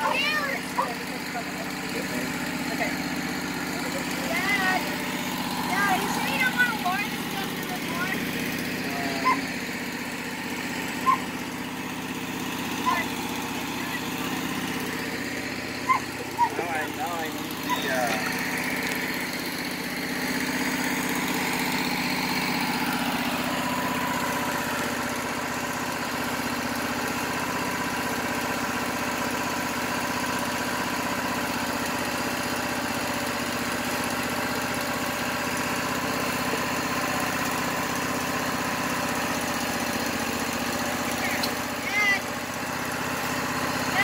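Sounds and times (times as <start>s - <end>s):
sawmill engine running: 0.0s - 44.0s.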